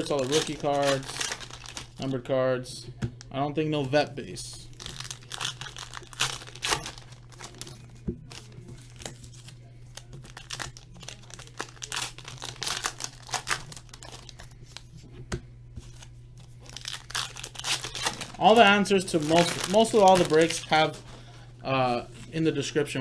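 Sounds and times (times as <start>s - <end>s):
plastic packaging crinkling and tearing: 0.0s - 2.2s, 3.8s - 14.9s, 15.8s - 21.2s.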